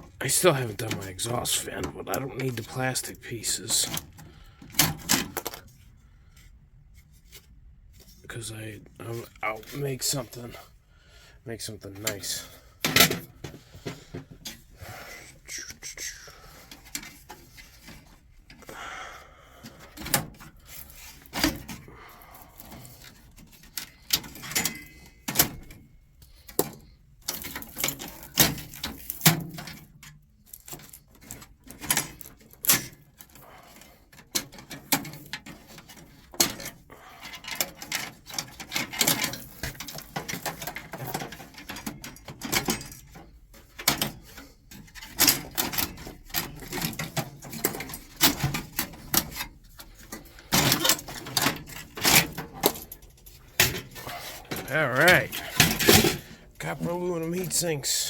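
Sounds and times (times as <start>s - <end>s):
plastic and metal parts clattering: 0.0s - 10.8s, 11.5s - 15.3s, 16.4s - 18.8s, 19.6s - 58.0s.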